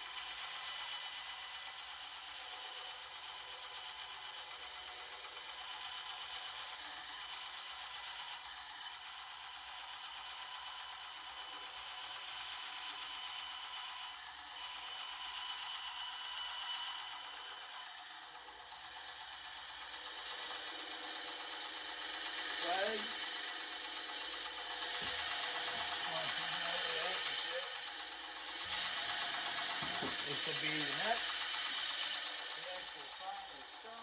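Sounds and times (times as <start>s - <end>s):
bandsaw running: 0.0s - 34.0s.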